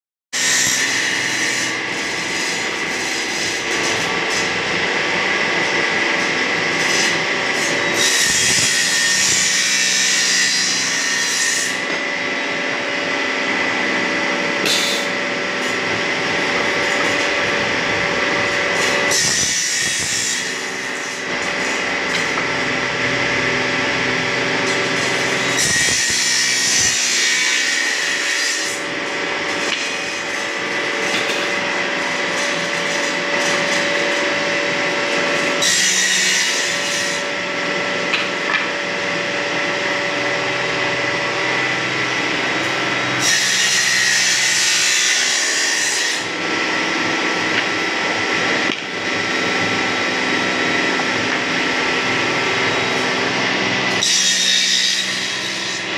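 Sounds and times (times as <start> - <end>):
saw blade cutting wood: 0.4 - 55.9
table saw motor hum: 0.4 - 55.9.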